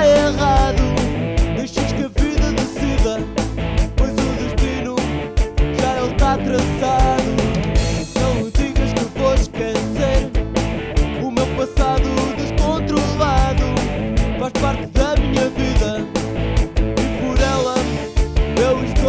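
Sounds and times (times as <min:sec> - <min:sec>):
bass: 0:00.0 - 0:19.0
drums keeping steady beat: 0:00.0 - 0:19.0.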